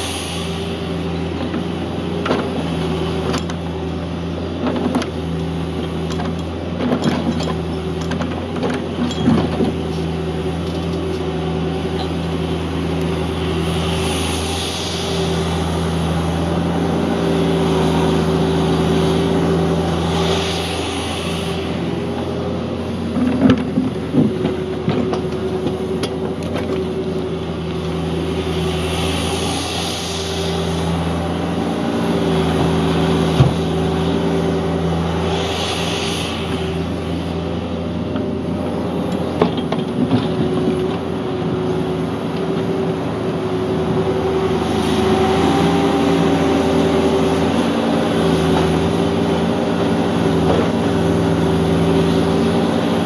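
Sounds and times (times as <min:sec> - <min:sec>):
diesel engine running: 0:00.0 - 0:53.0
hydraulic whine: 0:00.0 - 0:53.0.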